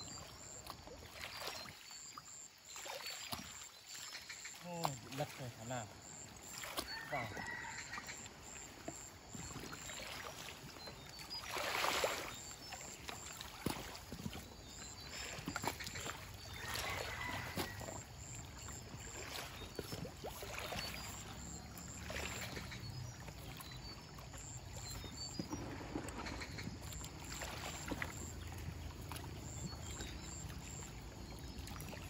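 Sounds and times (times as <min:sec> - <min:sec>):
water splashing and streaming: 0:00.0 - 0:32.0.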